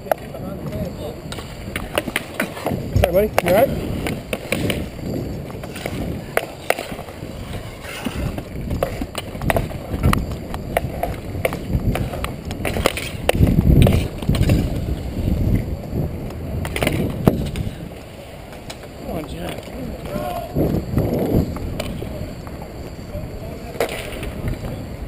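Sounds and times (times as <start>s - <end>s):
sticks and puck clacking: 0.0s - 15.6s, 16.2s - 20.2s, 23.7s - 24.8s
skate wheels rolling: 0.0s - 25.0s
wind rumbling on microphone: 0.0s - 25.0s.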